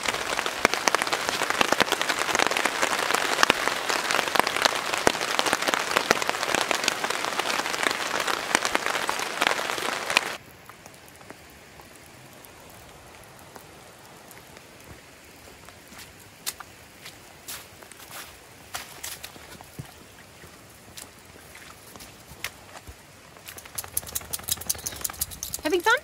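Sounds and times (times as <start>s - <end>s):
rain patter: 0.0s - 26.0s.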